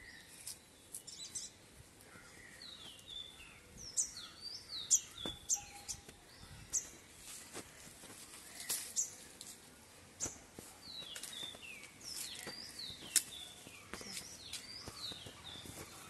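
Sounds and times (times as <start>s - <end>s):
birds chirping: 0.0s - 16.0s
low outdoor background: 0.0s - 16.0s.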